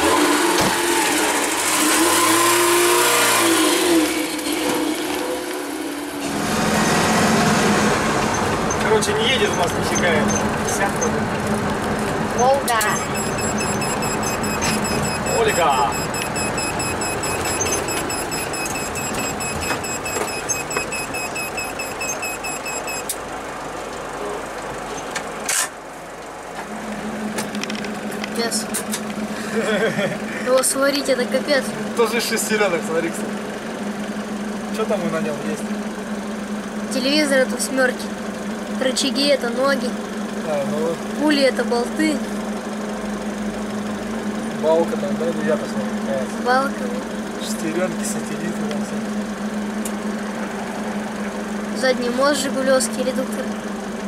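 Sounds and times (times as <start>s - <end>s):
road and engine noise: 0.0s - 54.0s.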